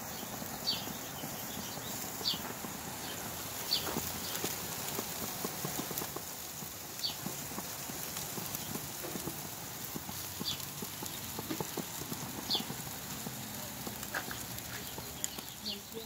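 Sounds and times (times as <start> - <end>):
food crackling on a grill: 0.0 - 16.0.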